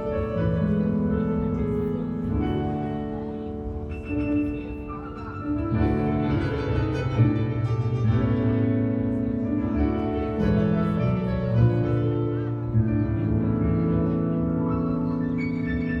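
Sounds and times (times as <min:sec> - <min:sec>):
sustained keyboard chords: 0:00.0 - 0:16.0.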